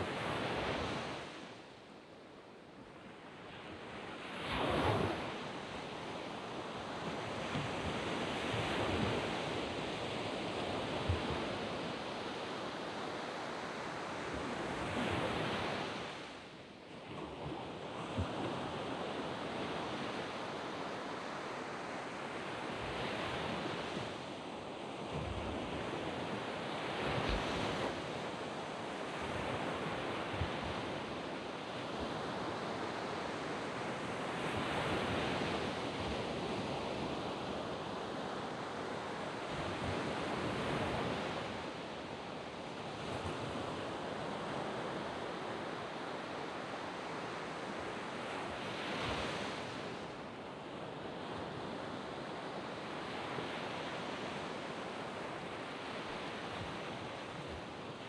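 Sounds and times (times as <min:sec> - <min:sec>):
surf washing up beach: 0:03.1 - 0:58.0.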